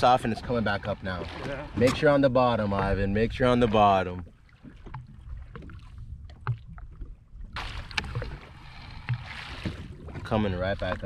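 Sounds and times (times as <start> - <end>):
water slapping against hull: 0.0 - 11.0.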